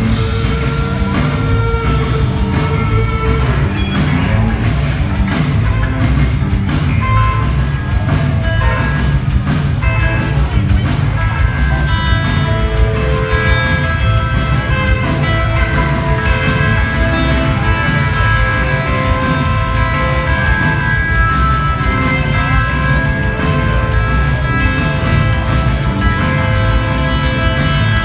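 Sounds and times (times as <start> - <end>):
bass guitar: 0.0 - 28.0
drum kit beat: 0.0 - 28.0
electric guitars: 0.0 - 28.0.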